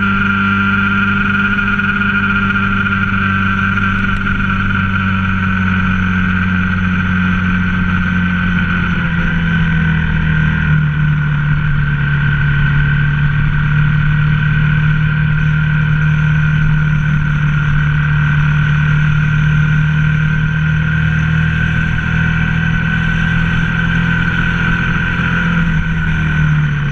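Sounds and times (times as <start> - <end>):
motorcycle engine cruising: 0.0 - 26.9.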